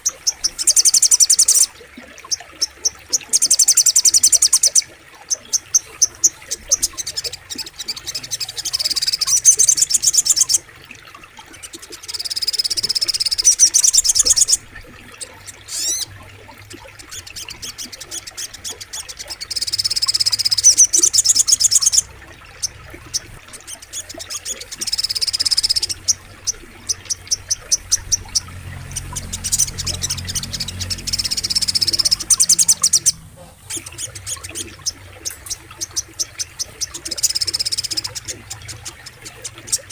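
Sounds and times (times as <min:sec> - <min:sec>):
faint flowing water rumble: 0:00.0 - 0:39.9.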